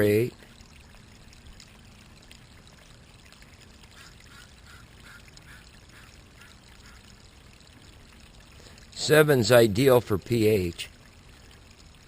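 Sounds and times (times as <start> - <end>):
water running from drain pipe: 0.0 - 12.0.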